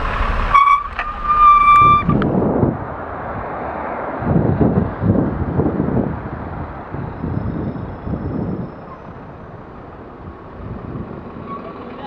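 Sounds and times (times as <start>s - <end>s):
passing traffic: 0.0s - 12.0s
wind buffeting microphone: 0.0s - 12.0s.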